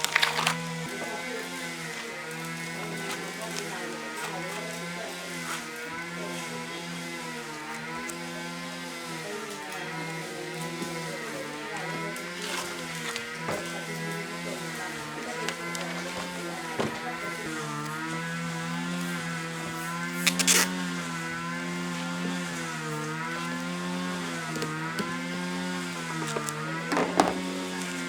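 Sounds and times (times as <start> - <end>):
motor humming: 0.0 - 28.0.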